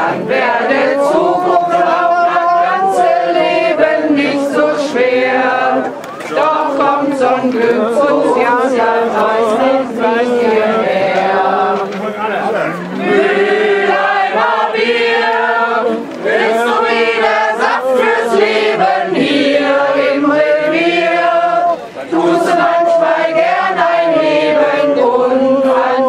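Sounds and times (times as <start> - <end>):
group singing held notes: 0.0 - 26.0.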